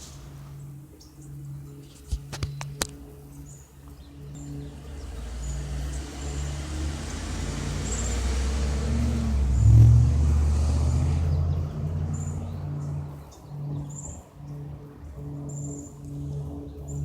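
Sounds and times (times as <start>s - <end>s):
light aircraft passing over: 0.0s - 17.0s.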